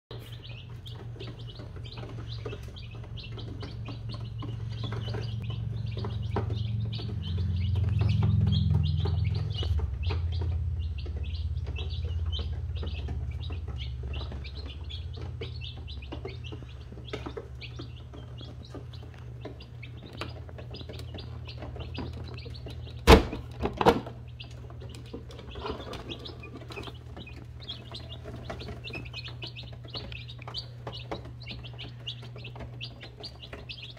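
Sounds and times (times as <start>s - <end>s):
chicks peeping: 0.1s - 33.9s
low hum: 0.1s - 33.9s.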